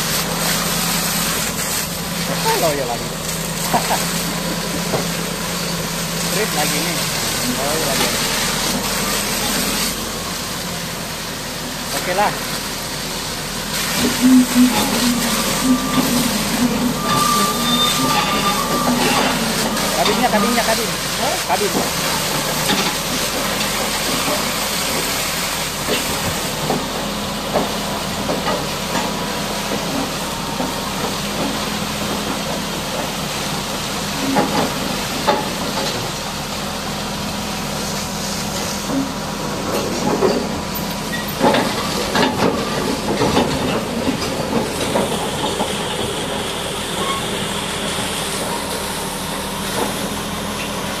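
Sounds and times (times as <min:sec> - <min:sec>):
high-pressure water jet hissing: 0:00.0 - 0:51.0.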